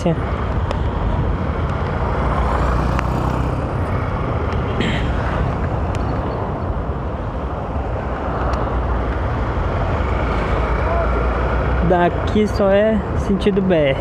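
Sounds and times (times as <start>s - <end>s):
traffic noise: 0.0s - 14.0s
tyres on wet road: 0.0s - 14.0s
wind rumble on microphone: 0.0s - 14.0s.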